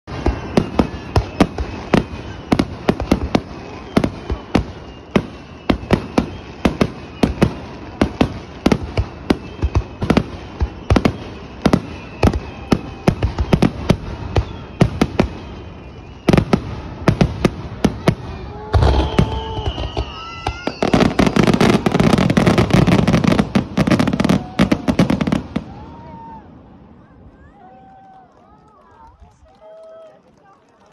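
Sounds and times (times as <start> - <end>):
crackle of firework bursts: 0.0 - 30.9.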